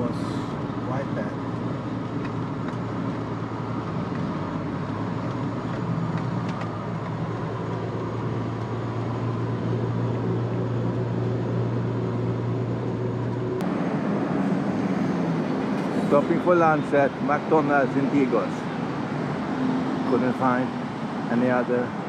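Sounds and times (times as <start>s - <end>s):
tyre and road noise: 0.0s - 22.0s
van engine humming: 0.0s - 22.0s.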